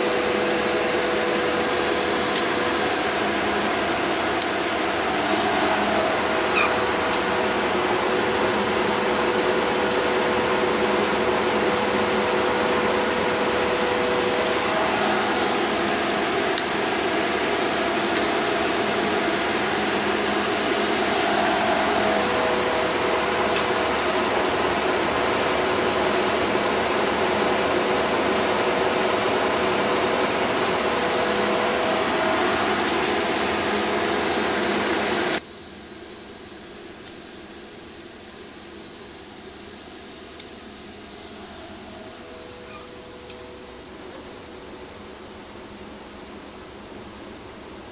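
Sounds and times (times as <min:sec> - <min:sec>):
lathe whirring: 0:00.0 - 0:35.4, 0:39.6 - 0:47.8.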